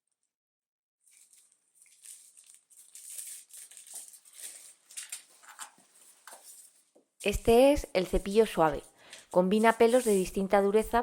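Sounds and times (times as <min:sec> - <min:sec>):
plastic packaging rustling: 0:01.0 - 0:07.4, 0:08.1 - 0:10.8.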